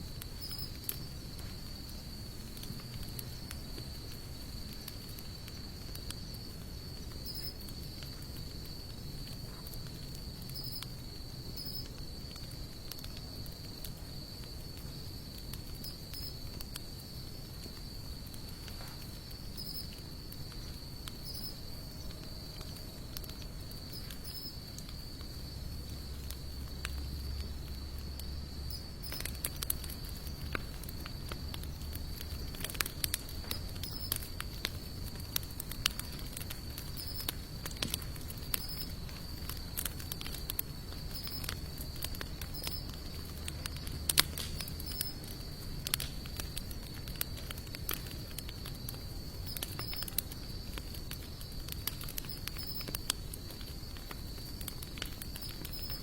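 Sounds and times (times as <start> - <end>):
high insect trill: 0.0 - 2.1, 5.3 - 12.9, 13.6 - 56.0
wood fire crackling and popping: 0.0 - 56.0.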